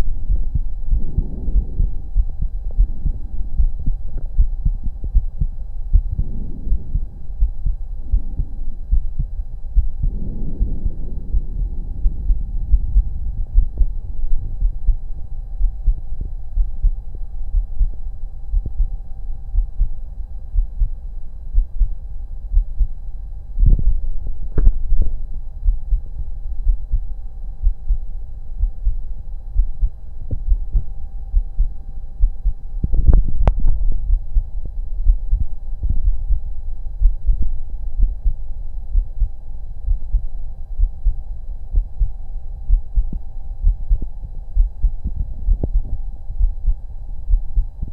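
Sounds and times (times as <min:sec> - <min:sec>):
heartbeat thumps: 0:00.0 - 0:28.0, 0:28.6 - 0:47.9
faint steady hum: 0:00.0 - 0:47.9.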